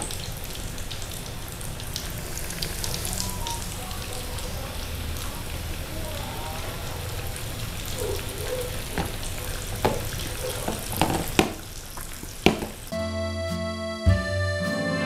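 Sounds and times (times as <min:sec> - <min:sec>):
fish deep-frying in oil: 0:00.0 - 0:12.9
oil popping and crackling: 0:00.0 - 0:12.9.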